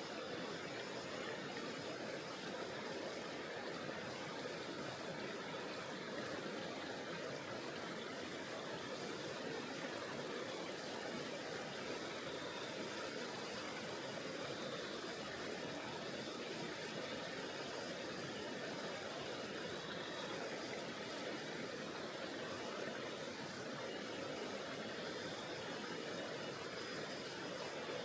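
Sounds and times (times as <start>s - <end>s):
flowing river water: 0.0s - 28.0s.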